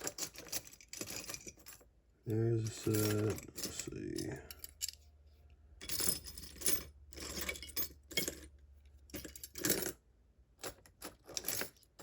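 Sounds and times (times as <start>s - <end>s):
lock picks clicking and scraping: 0.0s - 1.9s, 2.6s - 5.0s, 5.8s - 10.0s, 10.6s - 12.0s.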